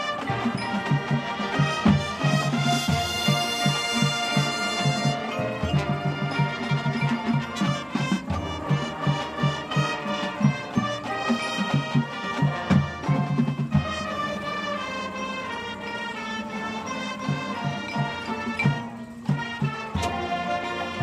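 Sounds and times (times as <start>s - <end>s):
marching band brass chords: 0.0s - 21.0s.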